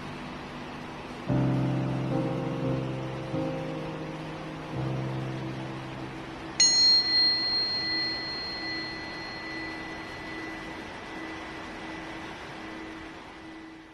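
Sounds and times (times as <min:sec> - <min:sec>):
waterfall hiss: 0:00.0 - 0:13.3
tuning fork ringing: 0:01.3 - 0:13.9.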